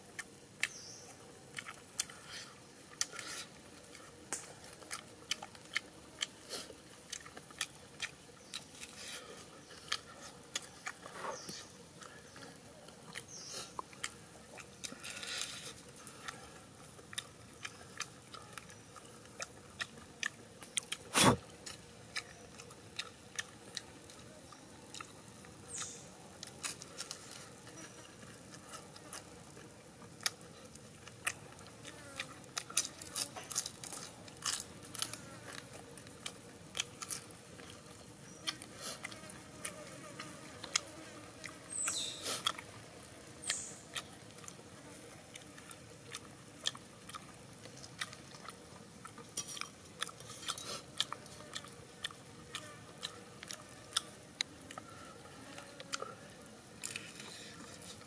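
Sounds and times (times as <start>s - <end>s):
wet chewing and lip smacks: 0.1s - 9.0s, 9.6s - 27.4s, 28.2s - 54.9s.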